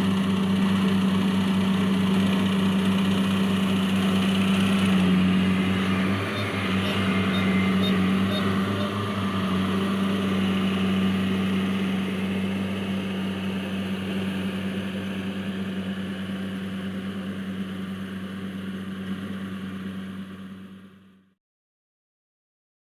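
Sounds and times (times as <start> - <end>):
combine harvester diesel engine droning: 0.0 - 21.3.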